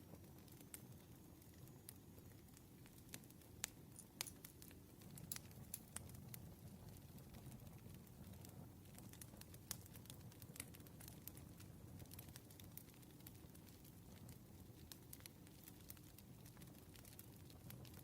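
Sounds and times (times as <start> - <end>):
campfire crackling: 0.0 - 18.0
fire popping: 0.0 - 18.0.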